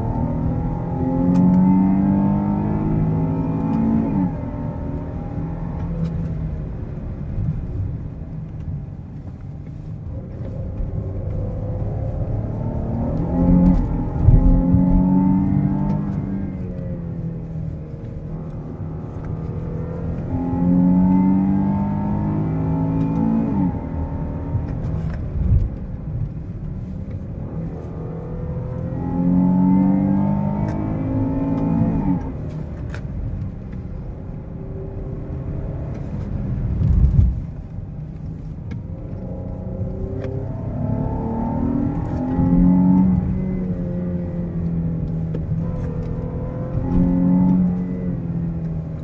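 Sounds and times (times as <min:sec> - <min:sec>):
car engine accelerating: 0:00.0 - 0:49.0
road and tyre noise: 0:00.0 - 0:49.0.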